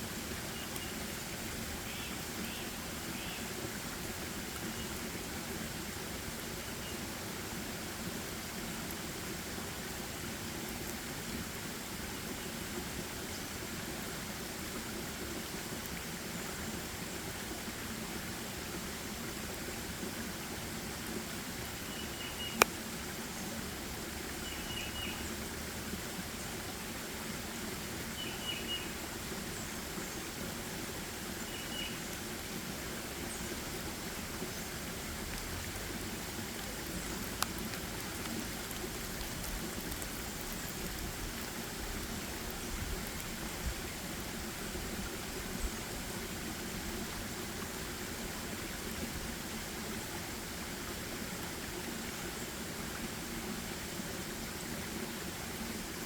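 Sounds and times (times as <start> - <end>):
forest background hiss: 0.0 - 56.0.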